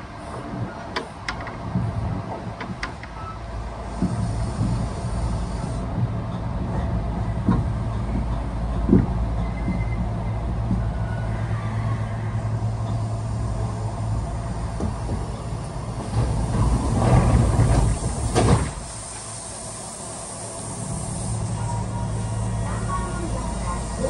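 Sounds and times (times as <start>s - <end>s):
train running hum and rumble: 0.0s - 24.0s.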